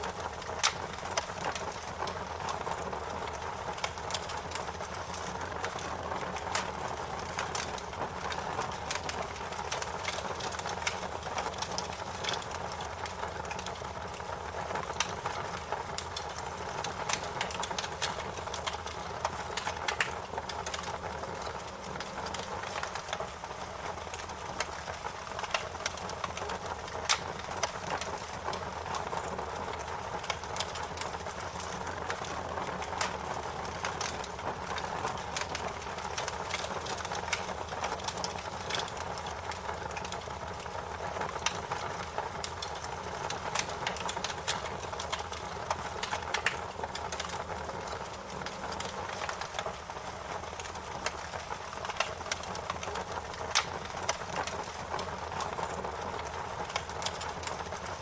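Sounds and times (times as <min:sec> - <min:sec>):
fire pops and snaps: 0:00.0 - 0:58.0
wood fire hissing and rumbling: 0:00.0 - 0:58.0.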